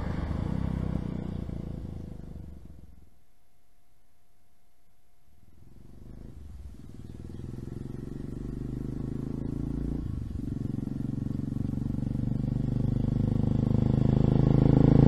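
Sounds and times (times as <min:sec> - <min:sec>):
motorcycle engine approaching: 0:00.0 - 0:03.1, 0:05.4 - 0:15.0.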